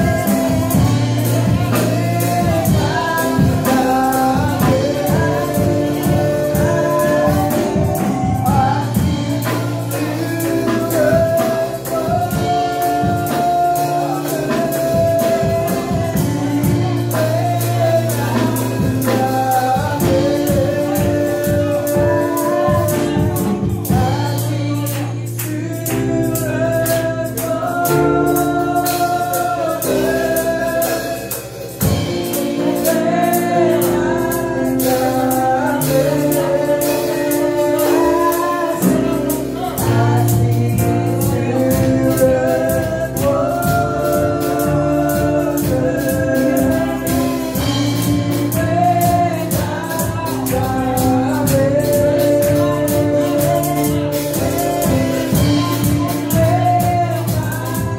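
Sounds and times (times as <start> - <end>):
drum kit: 0.0 - 57.9
electronic keyboard: 0.0 - 57.9
women singing: 0.0 - 57.9.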